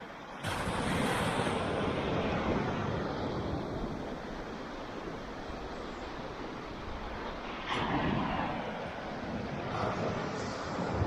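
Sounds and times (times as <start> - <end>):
gusting wind: 0.0 - 11.0
ocean surf on rocky shore: 0.0 - 11.0.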